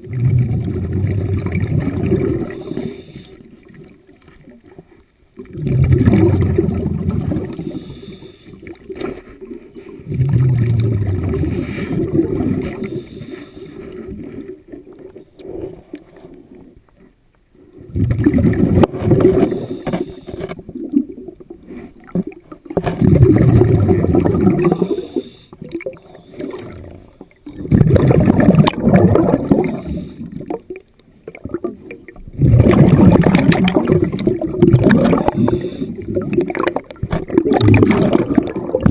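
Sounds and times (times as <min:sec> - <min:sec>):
diver exhaling bubbles underwater: 0:00.0 - 0:03.9, 0:05.4 - 0:15.9, 0:17.8 - 0:38.9.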